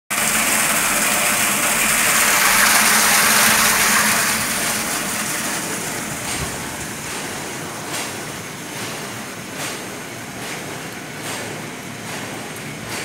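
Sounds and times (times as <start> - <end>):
water gushing from pipe into tank: 0.1 - 11.2.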